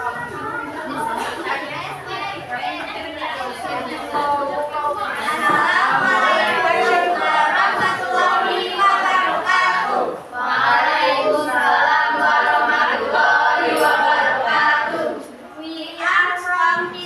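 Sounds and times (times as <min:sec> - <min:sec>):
young voices singing together: 0:00.0 - 0:17.0.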